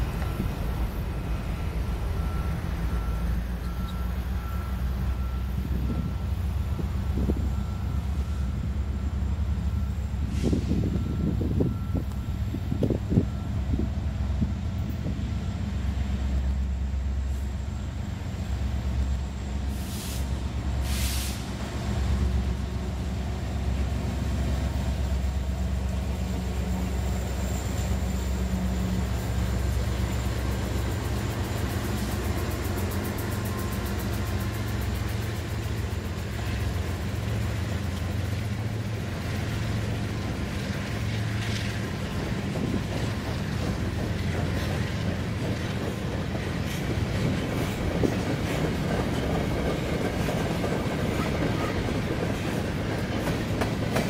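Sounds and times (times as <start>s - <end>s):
diesel locomotives droning: 0.0s - 54.0s
freight cars rolling past: 0.0s - 54.0s.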